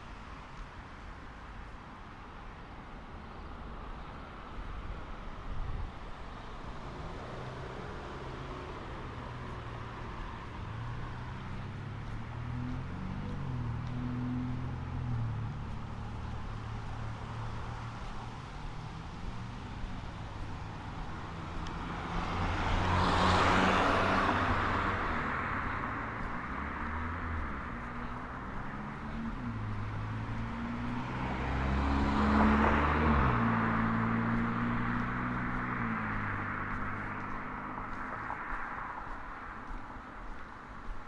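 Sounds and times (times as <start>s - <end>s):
vehicles passing by: 0.0s - 41.0s
low traffic engine hum: 3.1s - 41.0s.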